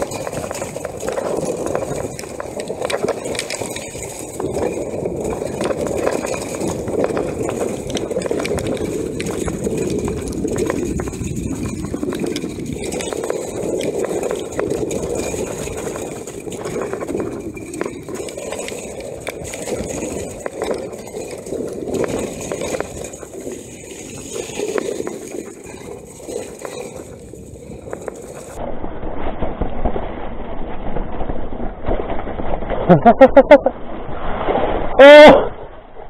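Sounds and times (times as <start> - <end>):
bike clattering and rattling: 0.0 - 34.7.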